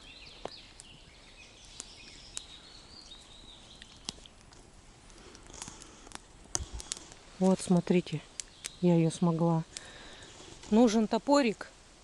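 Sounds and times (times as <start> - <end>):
faint distant birdsong: 0.0 - 12.0.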